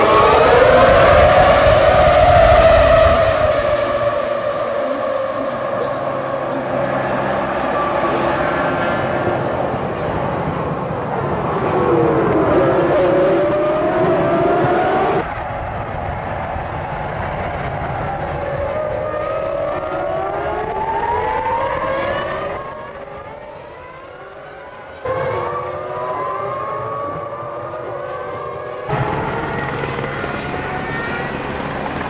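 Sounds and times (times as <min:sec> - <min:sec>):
racing car engines accelerating: 0:00.0 - 0:32.0.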